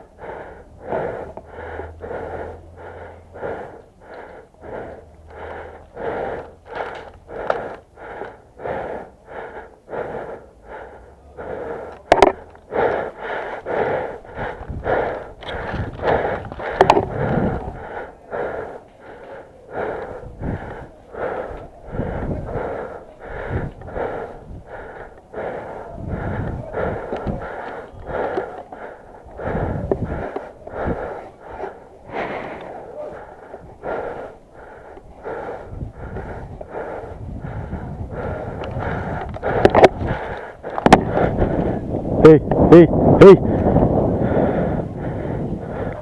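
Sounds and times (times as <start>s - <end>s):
person breathing hard: 0.0s - 46.0s.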